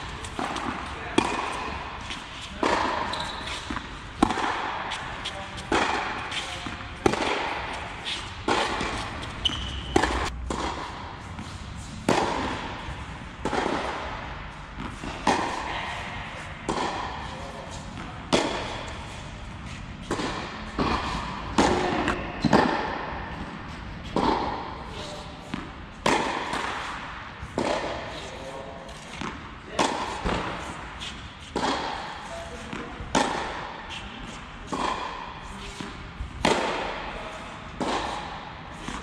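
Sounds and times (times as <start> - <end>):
tennis ball bouncing: 0.0 - 24.8, 25.4 - 39.0
tennis racket hitting ball: 0.0 - 39.0.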